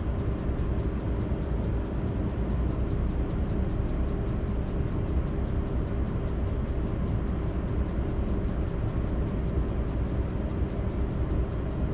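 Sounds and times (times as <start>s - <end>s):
car engine running steadily: 0.0s - 11.9s.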